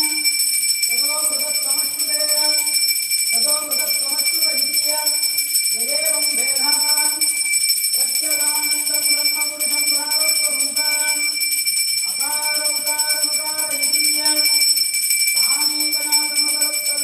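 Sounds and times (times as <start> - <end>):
hand bell ringing: 0.0 - 17.0.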